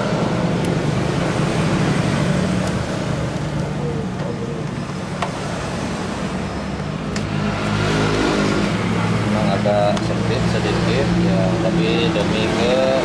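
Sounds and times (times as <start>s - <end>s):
traffic noise with low hum: 0.0s - 13.0s.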